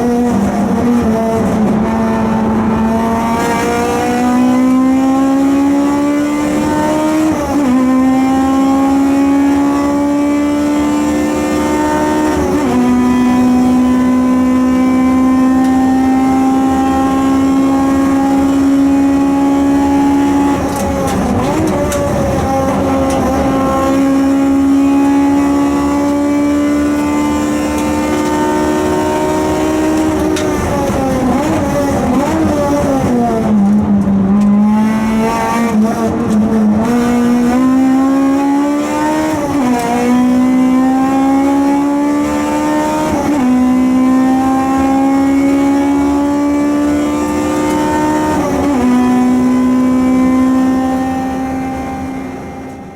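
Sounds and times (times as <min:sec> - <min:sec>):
car engine at high revs: 0:00.0 - 0:52.9.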